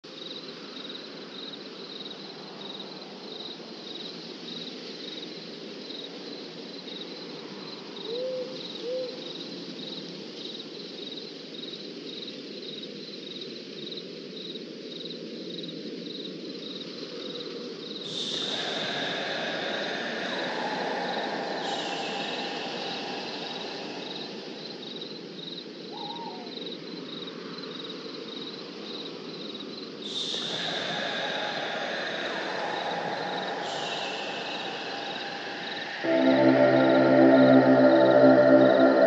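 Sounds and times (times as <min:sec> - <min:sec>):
crickets chirping: 0:00.1 - 0:39.0.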